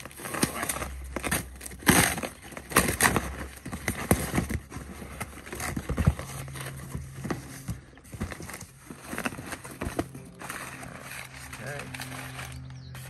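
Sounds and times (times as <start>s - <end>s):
packing paper crinkling: 0.0s - 13.0s.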